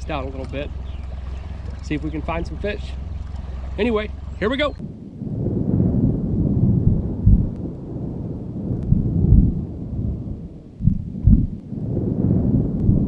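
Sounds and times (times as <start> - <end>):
heavy low thumps: 0.0 - 13.0
wind buffeting microphone: 0.0 - 13.0.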